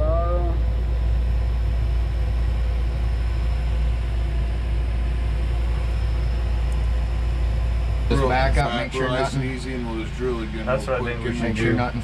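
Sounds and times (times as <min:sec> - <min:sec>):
engine low rumble from inside cabin: 0:00.0 - 0:12.0.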